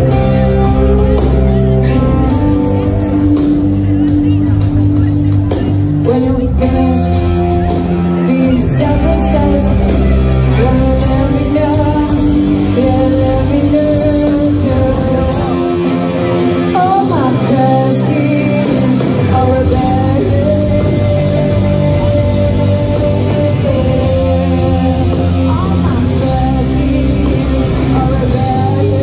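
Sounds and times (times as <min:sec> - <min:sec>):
distorted electric guitar: 0:00.0 - 0:29.0
drums: 0:00.0 - 0:29.0
woman singing lead: 0:00.0 - 0:29.0.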